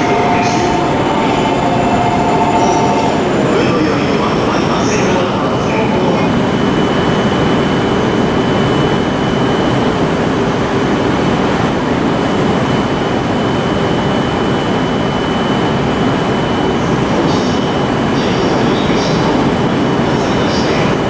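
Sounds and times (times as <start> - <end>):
rushing rumble of trains: 0.0 - 21.0.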